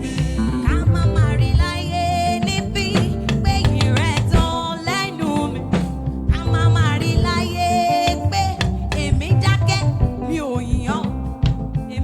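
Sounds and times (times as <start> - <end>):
gospel band playing: 0.0 - 12.0
person singing: 0.0 - 12.0.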